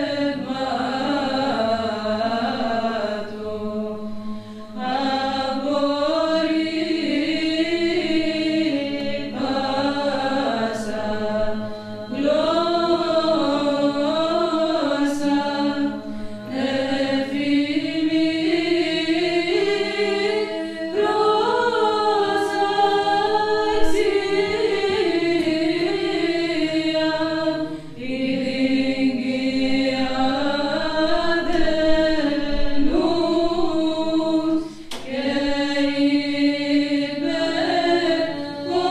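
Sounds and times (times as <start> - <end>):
women's choir singing a hymn: 0.0 - 38.9.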